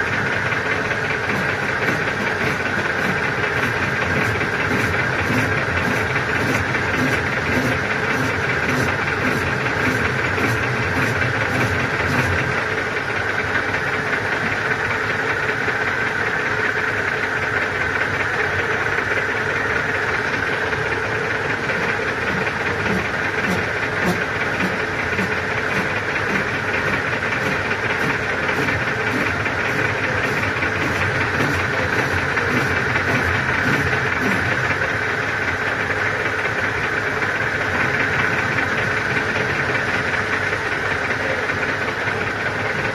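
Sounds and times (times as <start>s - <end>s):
metal lathe whirring hum: 0.0s - 42.9s.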